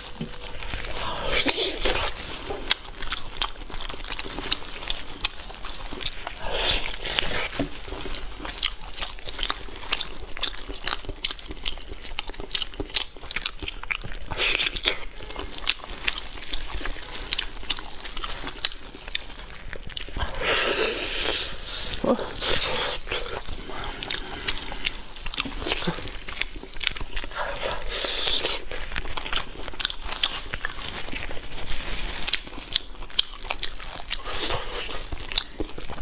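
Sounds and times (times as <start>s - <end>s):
biting and tearing meat: 0.0s - 36.0s
wet chewing with mouth clicks: 0.0s - 36.0s.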